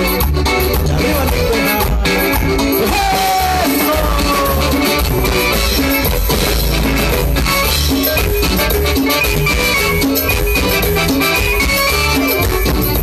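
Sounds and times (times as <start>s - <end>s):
latin dance band playing: 0.0s - 13.0s.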